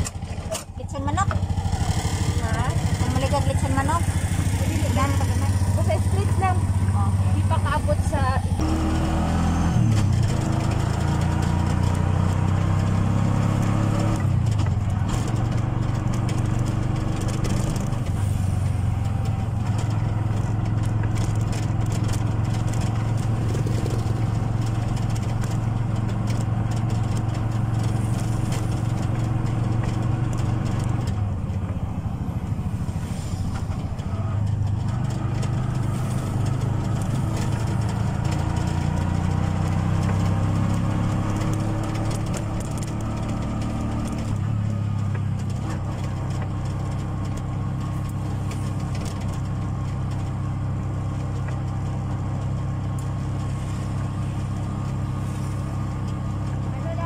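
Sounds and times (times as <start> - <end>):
motor tricycle engine running: 0.0 - 57.0.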